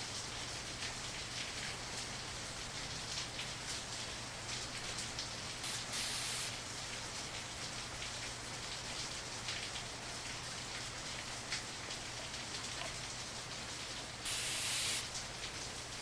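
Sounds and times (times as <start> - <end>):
rain pattering on window glass: 0.0 - 16.0.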